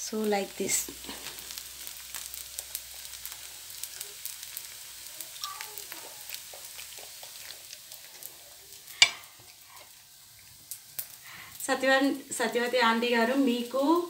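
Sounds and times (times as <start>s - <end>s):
pancake sizzling in a hot pan: 0.0s - 14.0s.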